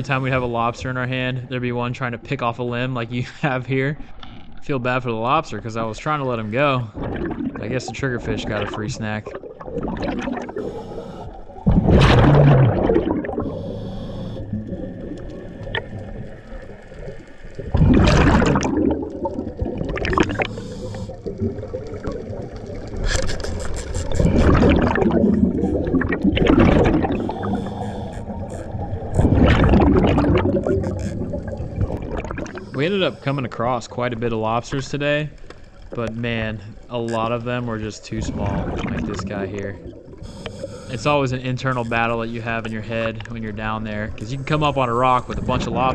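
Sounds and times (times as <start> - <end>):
underwater regulator bubbles: 6.4 - 45.9.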